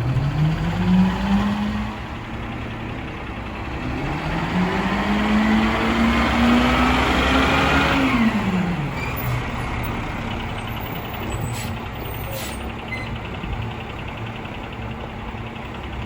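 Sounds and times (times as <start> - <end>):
diesel engine revving and idling: 0.0 - 16.0.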